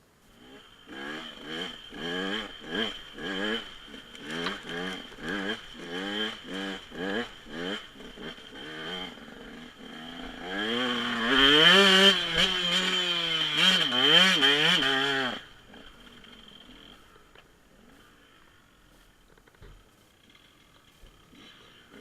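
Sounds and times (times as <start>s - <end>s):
dirt bike engine revving: 0.3s - 19.1s, 19.9s - 22.0s.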